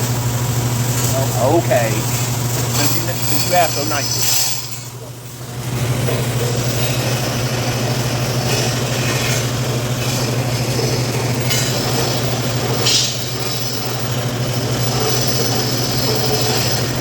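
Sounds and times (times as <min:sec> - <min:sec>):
welding arc buzzing: 0:00.0 - 0:17.0
welding hiss: 0:00.0 - 0:17.0.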